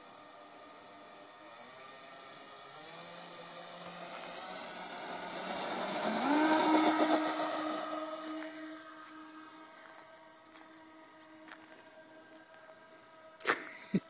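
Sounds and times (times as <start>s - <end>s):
model plane electric motors whining: 0.0s - 14.0s.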